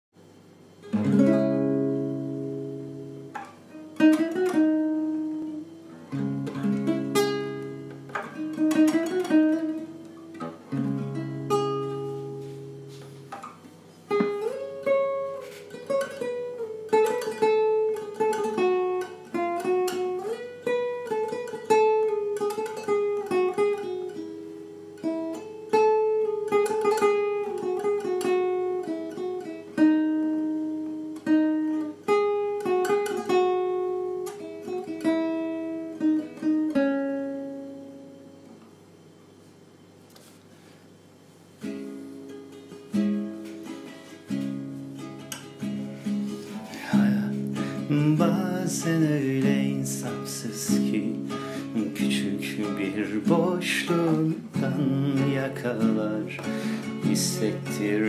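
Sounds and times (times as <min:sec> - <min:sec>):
acoustic guitar chords: 0:00.3 - 0:58.0
picked guitar melody: 0:00.3 - 0:58.0.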